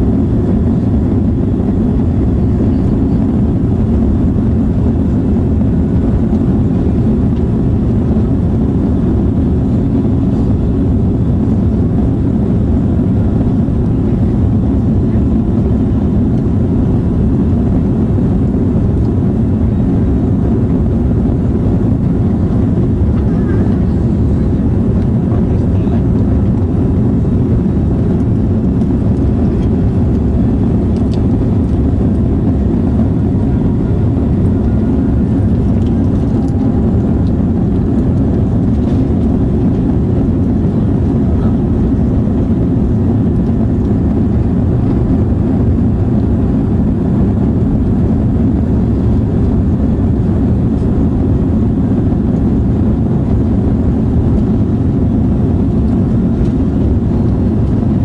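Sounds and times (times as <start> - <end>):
aircraft cabin engine roar: 0.0 - 58.0.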